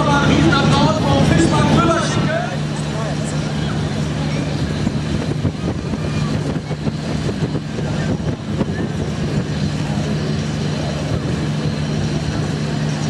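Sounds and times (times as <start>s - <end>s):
crowd murmuring and talking: 0.0s - 13.0s
steady low hum: 0.0s - 13.0s.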